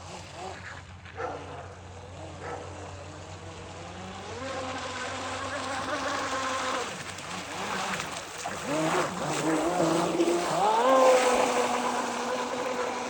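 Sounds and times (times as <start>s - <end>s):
model boat motor whining: 0.0s - 13.0s.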